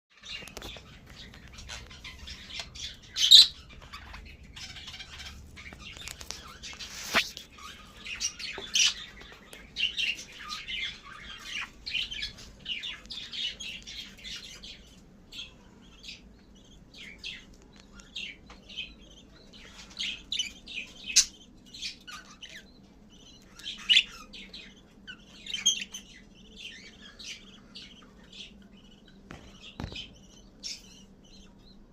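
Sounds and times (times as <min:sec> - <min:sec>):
budgerigars chirping and chattering: 0:00.2 - 0:31.9.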